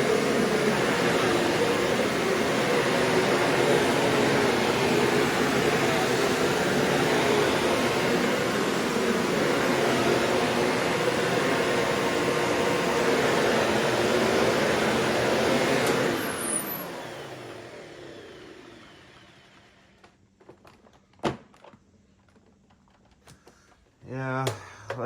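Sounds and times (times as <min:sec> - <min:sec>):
vacuum cleaner motor whine: 0:00.0 - 0:20.2.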